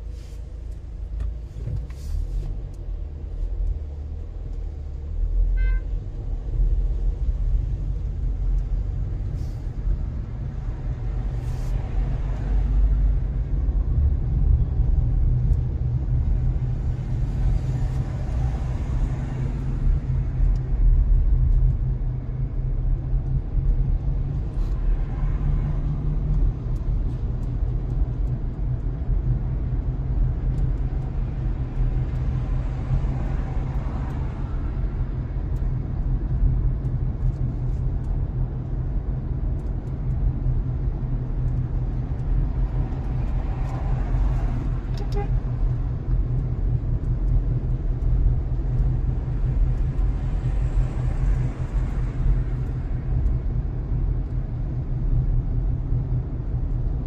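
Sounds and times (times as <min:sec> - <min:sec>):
road noise: 0:00.0 - 0:57.0
vehicle engine rumble: 0:00.0 - 0:57.0.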